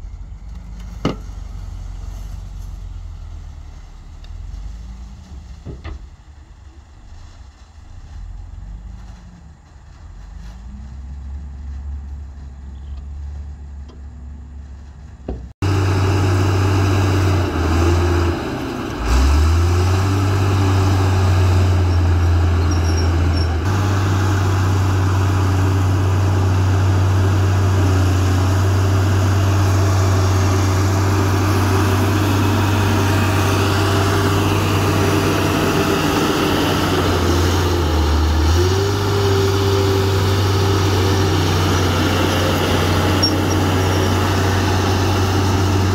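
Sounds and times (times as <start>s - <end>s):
bulldozer diesel engine: 0.0s - 45.9s
quieter engine: 0.0s - 45.9s.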